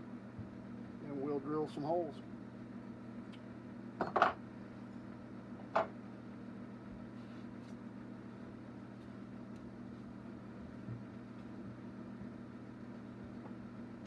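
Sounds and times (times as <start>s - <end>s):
low electric hum: 0.0s - 14.0s.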